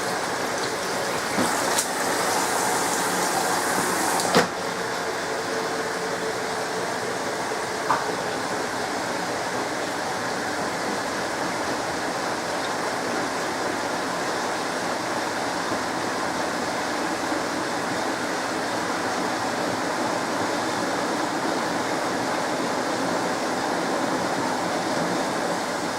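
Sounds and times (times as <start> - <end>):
washing machine rushing: 0.0 - 25.9.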